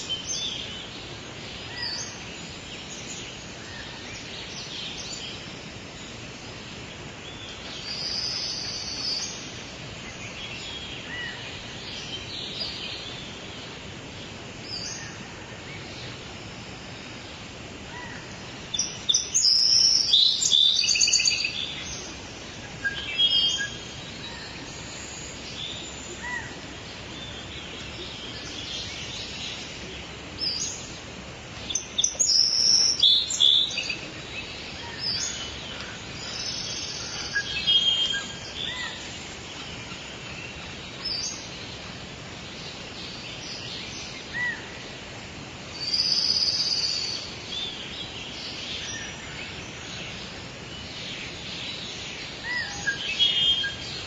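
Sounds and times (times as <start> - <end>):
steady background hiss: 0.0 - 54.0
wild birds chirping: 0.0 - 54.0.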